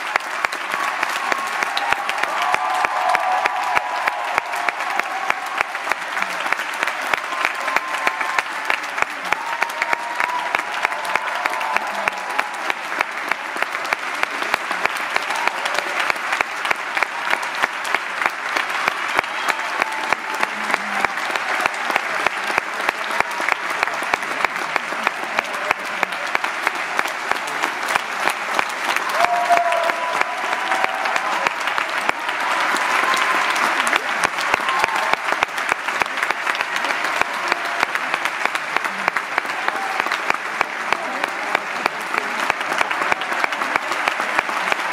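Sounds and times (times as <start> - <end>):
audience applauding: 0.0 - 44.9
hands clapping close by: 0.0 - 44.9.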